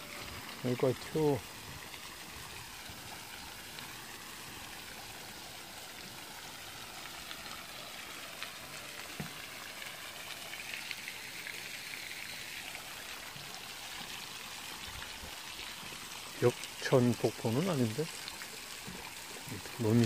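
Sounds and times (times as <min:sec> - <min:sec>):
fountain water splashing into pond: 0:00.0 - 0:20.0.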